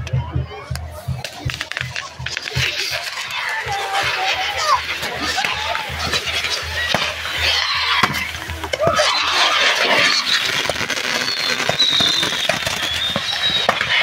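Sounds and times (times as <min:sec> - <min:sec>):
fireworks crackling and popping: 0:00.7 - 0:14.0
fireworks bangs: 0:00.8 - 0:14.0
high firework whistle: 0:01.7 - 0:14.0.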